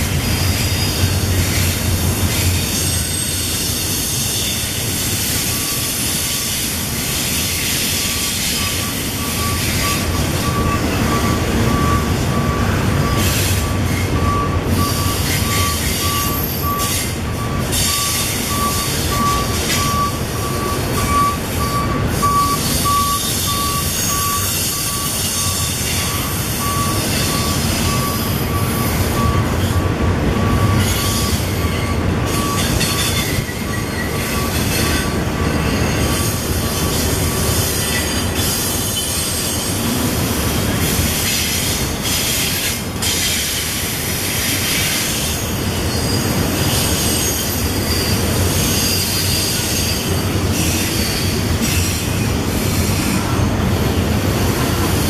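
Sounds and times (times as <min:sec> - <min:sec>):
train wheels rumbling and rattling: 0:00.0 - 0:55.0
thin wheel squeal: 0:00.2 - 0:29.8, 0:30.4 - 0:39.9, 0:41.2 - 0:53.3.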